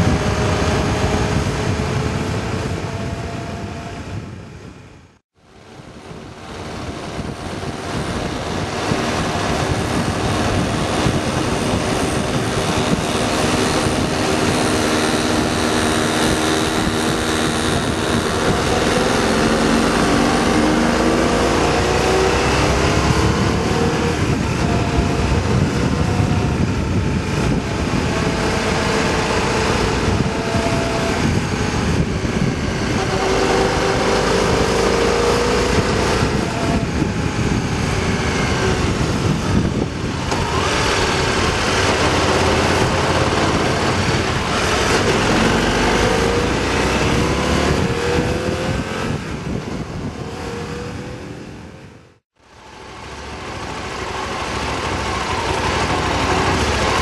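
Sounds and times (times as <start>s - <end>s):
wind rushing over microphone: 0.0s - 57.0s
motorcycle engine running: 5.4s - 57.0s.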